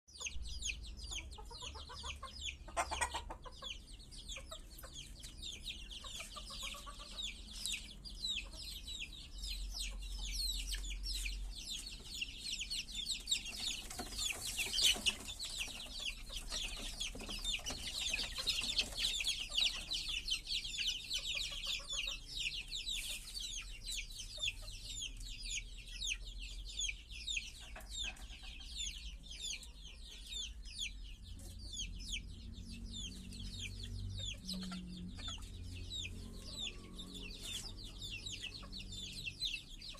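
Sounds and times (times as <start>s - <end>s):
chickens calling: 0.1s - 39.9s.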